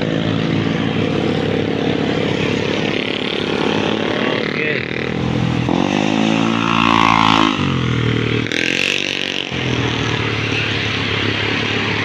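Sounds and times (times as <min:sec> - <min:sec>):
vehicle engines passing: 0:00.0 - 0:12.0.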